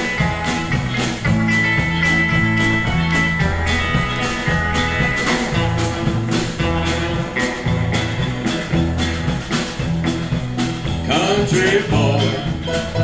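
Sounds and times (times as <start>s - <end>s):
country band playing: 0.0s - 13.0s
guitar: 0.0s - 13.0s.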